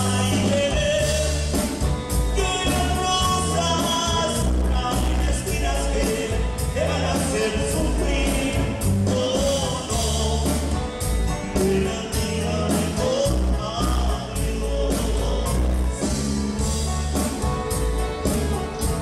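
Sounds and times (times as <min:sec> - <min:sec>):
person singing: 0:00.0 - 0:16.8
live dance band playing: 0:00.0 - 0:19.0.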